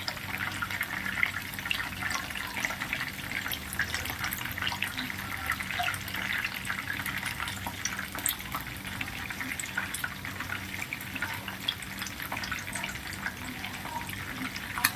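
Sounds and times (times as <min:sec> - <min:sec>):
chicken sizzling in hot oil: 0:00.0 - 0:14.9.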